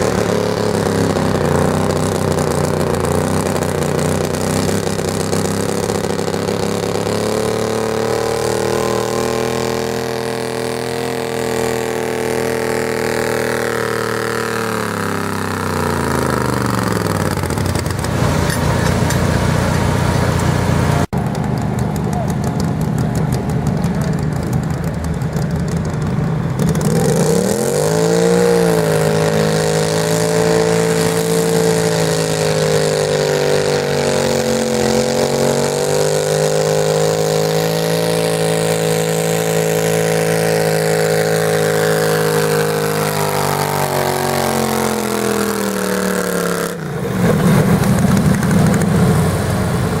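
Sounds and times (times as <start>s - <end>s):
tractor engine revving: 0.0s - 50.0s.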